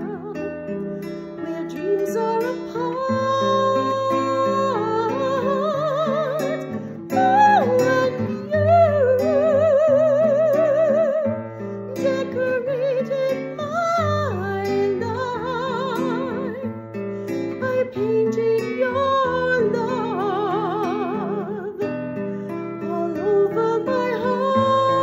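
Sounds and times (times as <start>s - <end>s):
woman singing with vibrato: 0.0s - 0.6s, 1.4s - 16.7s, 17.5s - 21.9s, 22.8s - 25.0s
strummed acoustic guitar: 0.0s - 25.0s.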